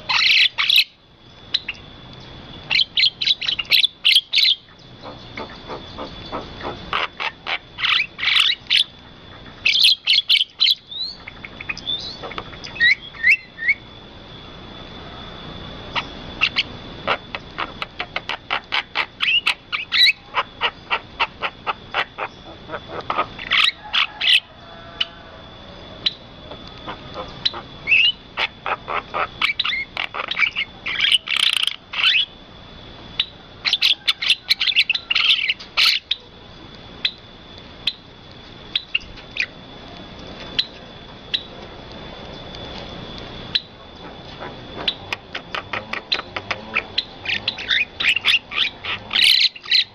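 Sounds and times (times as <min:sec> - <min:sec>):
birds chirping: 0:00.0 - 0:32.4, 0:33.1 - 0:49.9
steady high-pitched tone: 0:00.0 - 0:49.9.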